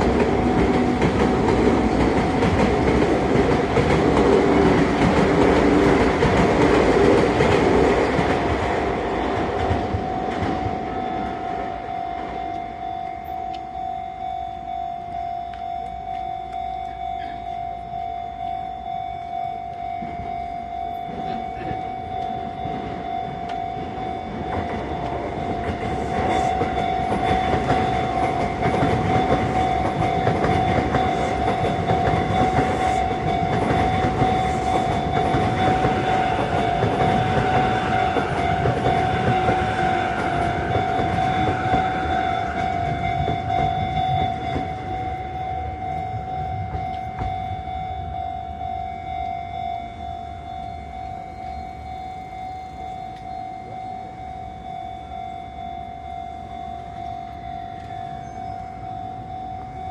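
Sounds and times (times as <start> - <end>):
crossing warning bell ringing: 0.0 - 59.9
train passing: 0.0 - 59.9.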